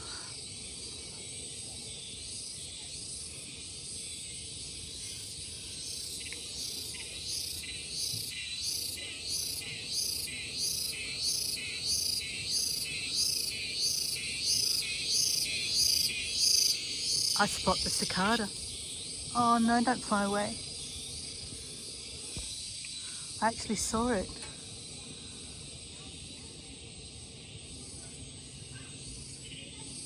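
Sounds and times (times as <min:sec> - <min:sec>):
cicada buzzing: 0:00.0 - 0:30.0.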